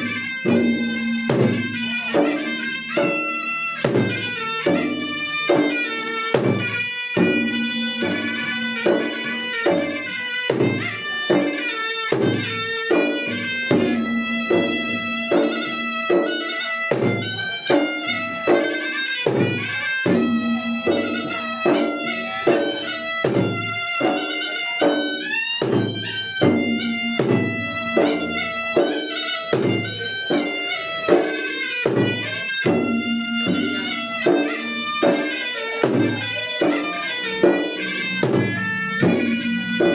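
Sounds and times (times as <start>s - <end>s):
double-headed drums beating: 0.0s - 39.9s
shrill reed melody: 0.0s - 39.9s.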